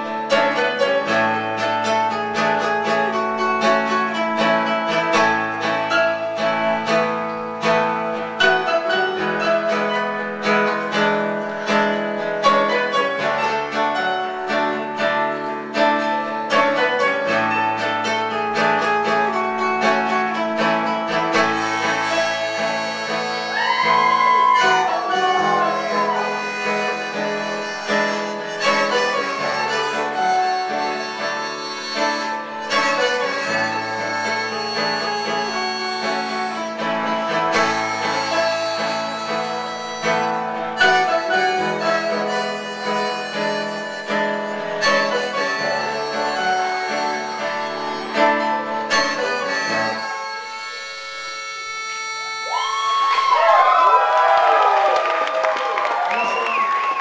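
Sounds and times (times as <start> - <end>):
acoustic guitar: 0.0 - 52.6
keyboard music: 0.0 - 52.7
harmonica sliding notes: 0.0 - 54.1.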